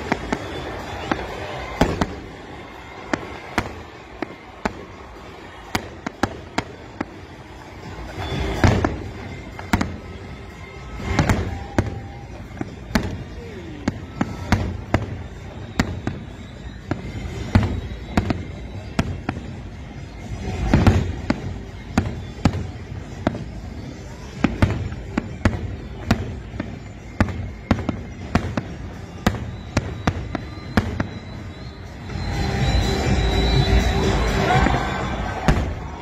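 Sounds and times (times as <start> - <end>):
fireworks exploding: 0.0 - 36.0.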